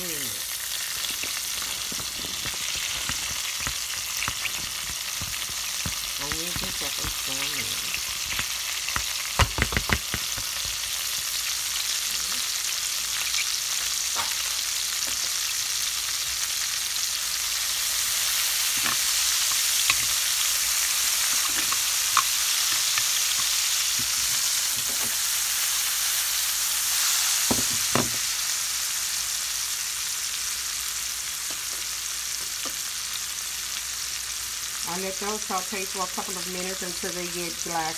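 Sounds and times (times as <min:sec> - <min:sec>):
vegetables sizzling in a skillet: 0:00.0 - 0:37.9.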